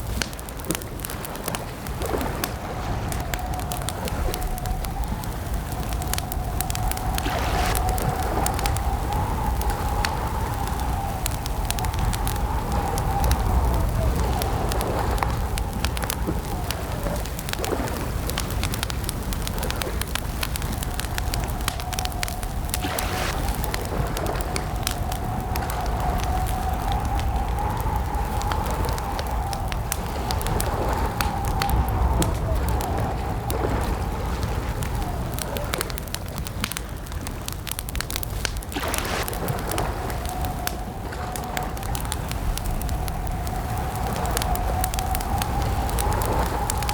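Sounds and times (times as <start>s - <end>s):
campfire crackling: 0.0s - 46.9s
low rumble of flames: 0.0s - 46.9s.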